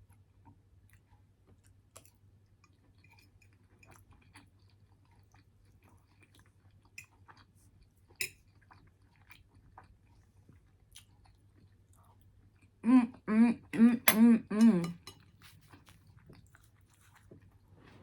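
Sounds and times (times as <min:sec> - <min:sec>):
person chewing food: 0:00.0 - 0:12.8, 0:14.6 - 0:18.0.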